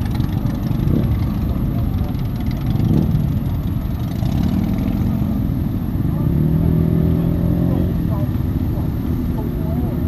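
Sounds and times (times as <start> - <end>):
motorcycles riding past: 0.0 - 10.0.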